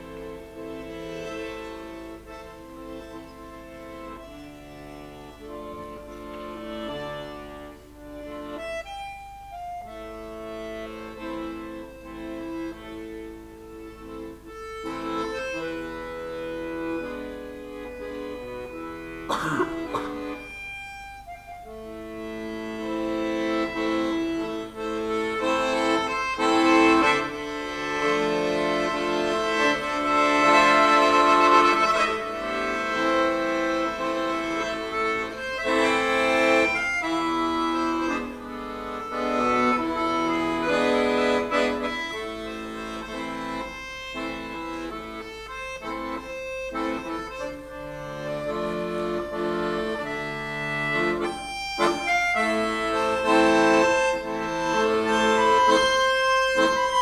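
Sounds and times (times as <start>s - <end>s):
accordion playing chords: 0.0s - 57.0s.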